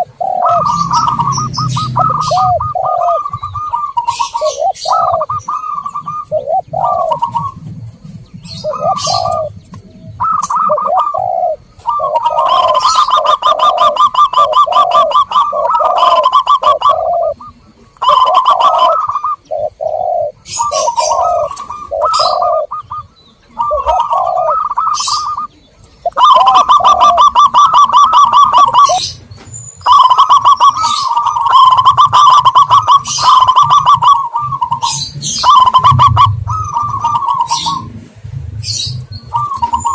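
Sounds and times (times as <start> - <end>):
trilled cooing: 0.0 - 7.7, 8.5 - 25.5, 26.1 - 29.2, 29.8 - 38.0, 39.3 - 39.9
doves cooing: 0.0 - 39.9.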